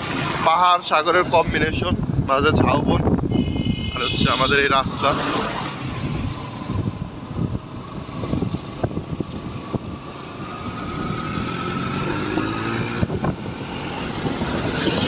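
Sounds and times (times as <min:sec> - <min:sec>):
vehicle engine and road noise: 0:00.0 - 0:15.0
wind rumbling on microphone: 0:01.3 - 0:15.0.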